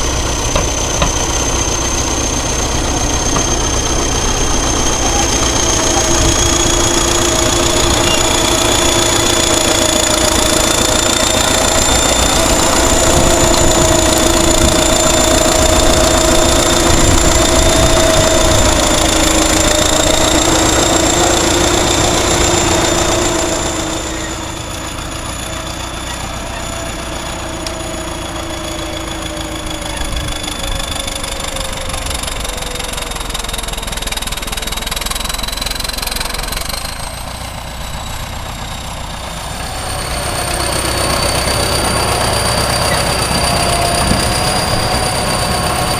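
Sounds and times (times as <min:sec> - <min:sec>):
turbocharger whistle: 0:00.0 - 0:33.7, 0:39.5 - 0:45.9
diesel engine running: 0:00.0 - 0:45.9.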